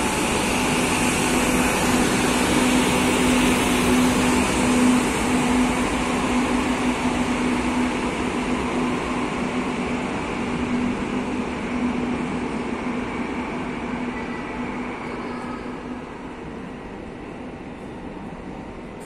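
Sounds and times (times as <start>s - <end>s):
electric train humming: 0.0s - 19.0s.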